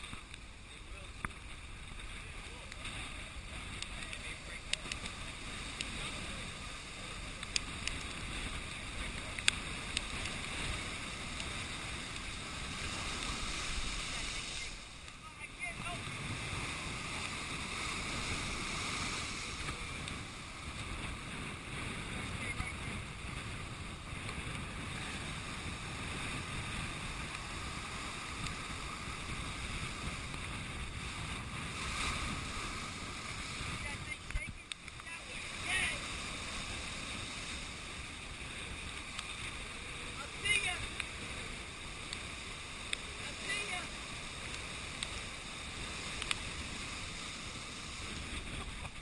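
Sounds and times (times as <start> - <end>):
surf breaking over rocks: 0.0 - 49.0
wind: 0.0 - 49.0.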